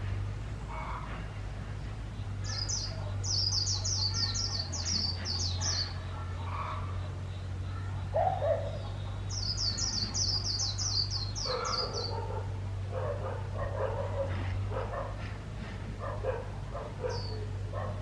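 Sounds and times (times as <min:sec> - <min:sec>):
lower rougher bird calls: 0:00.0 - 0:18.0
steady low hum: 0:00.0 - 0:18.0.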